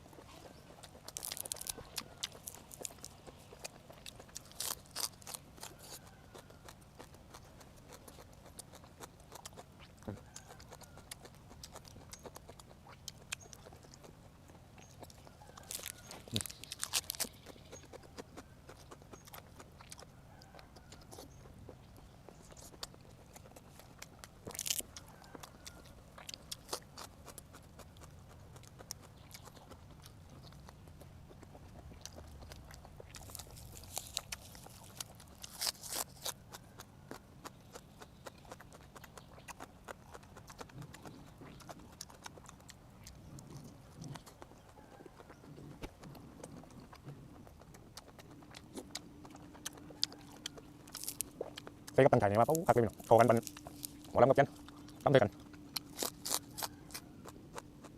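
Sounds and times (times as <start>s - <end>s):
person chewing: 0.0s - 57.9s.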